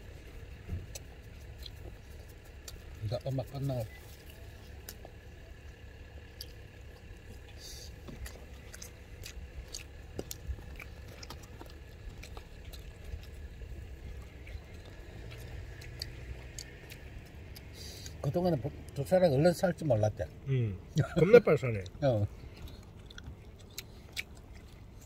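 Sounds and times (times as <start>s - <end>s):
chewing: 0.0s - 19.1s, 21.0s - 25.0s
steady low rumble: 0.0s - 25.0s.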